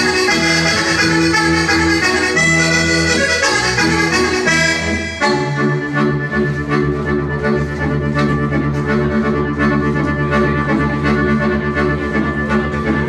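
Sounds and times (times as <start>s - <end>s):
button accordion dance tune: 0.0s - 13.0s.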